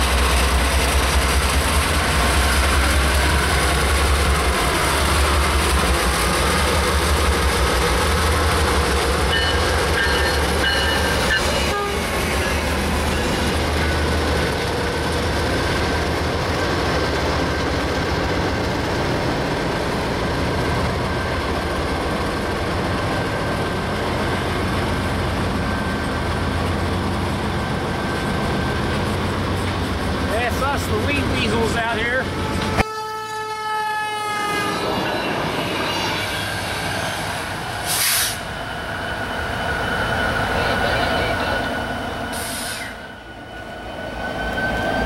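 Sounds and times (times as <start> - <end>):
diesel locomotive engines rumbling: 0.0 - 45.0.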